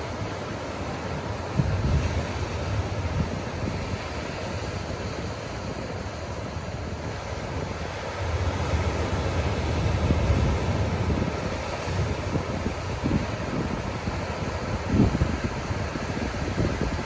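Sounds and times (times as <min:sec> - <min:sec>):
ocean surf washing on beach: 0:00.0 - 0:17.0
wind buffeting microphone: 0:00.0 - 0:17.0.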